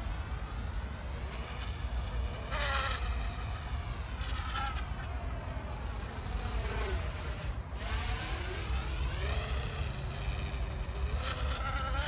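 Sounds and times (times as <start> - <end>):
drone motors buzzing: 0.0 - 12.0.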